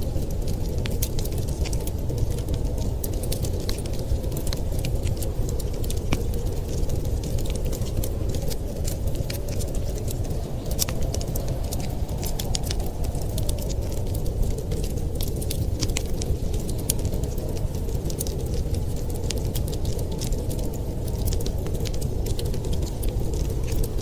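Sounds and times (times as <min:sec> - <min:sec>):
low rumble of storm wind: 0:00.0 - 0:24.0
wood fire crackling and popping: 0:00.0 - 0:24.0.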